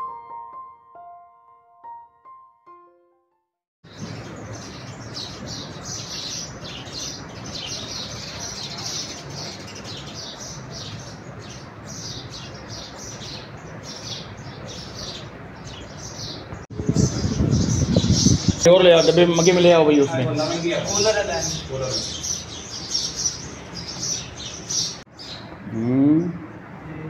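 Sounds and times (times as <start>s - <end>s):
small birds chirping: 3.9s - 26.5s
steady background noise: 3.9s - 27.0s.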